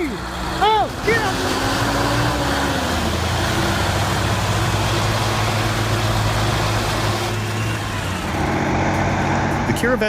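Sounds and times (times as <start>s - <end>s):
diesel tractor engines under load: 0.0s - 10.0s.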